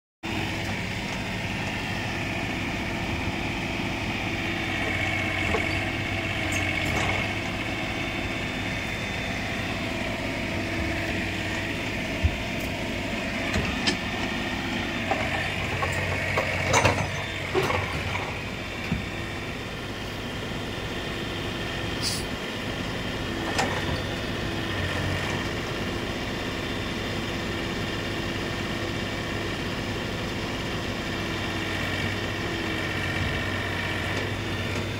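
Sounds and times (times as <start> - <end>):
diesel engine running under load: 0.2 - 34.9.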